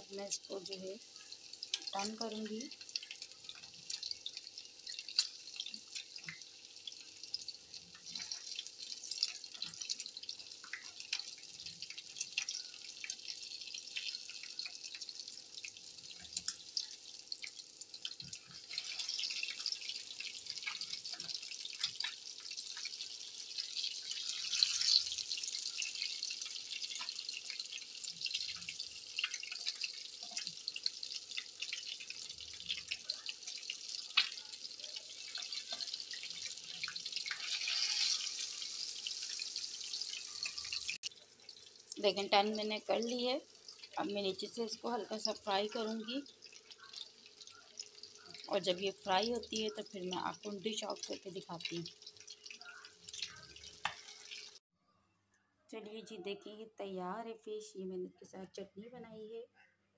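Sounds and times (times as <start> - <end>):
fish sizzling in hot oil: 0.0 - 54.7.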